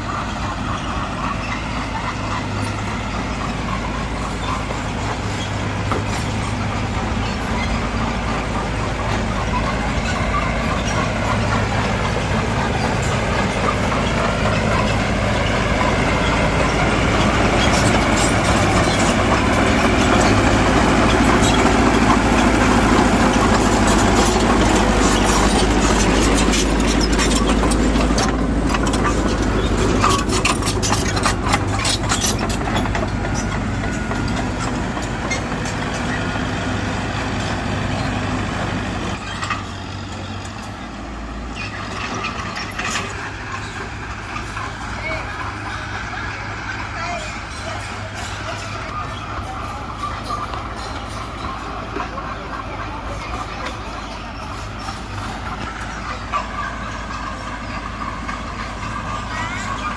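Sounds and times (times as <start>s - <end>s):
diesel bulldozer running: 0.0s - 59.9s
rapid metal clanks and rattles: 0.0s - 59.9s.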